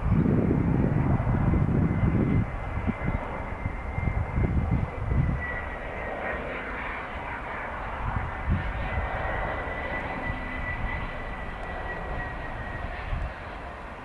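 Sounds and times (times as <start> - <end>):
airliner engine whine: 0.0 - 14.0
wind buffeting microphone: 0.0 - 14.0.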